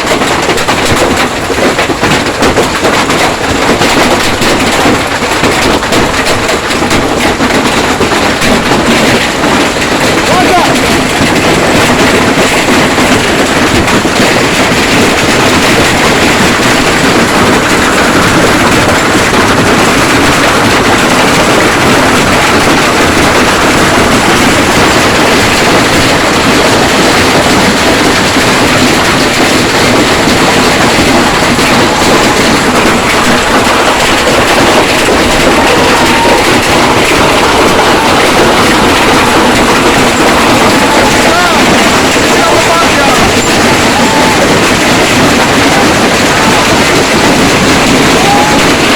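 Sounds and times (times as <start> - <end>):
hailstones pelting down: 0.0 - 48.9.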